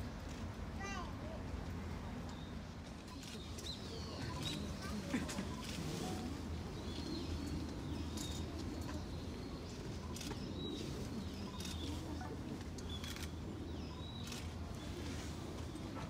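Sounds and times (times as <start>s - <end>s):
small birds chirping: 2.0s - 16.0s.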